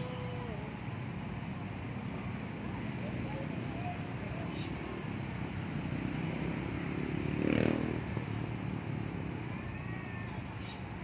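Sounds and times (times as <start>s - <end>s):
steady outdoor din: 0.0s - 11.0s
vehicle engine: 0.0s - 11.0s.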